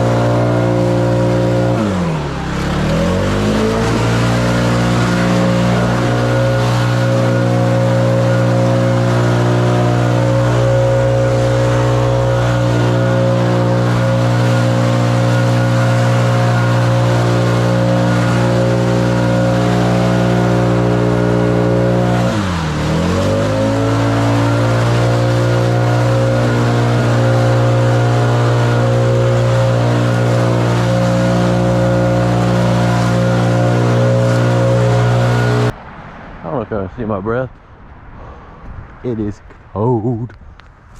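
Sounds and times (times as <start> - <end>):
small gas engine revving: 0.0 - 35.8.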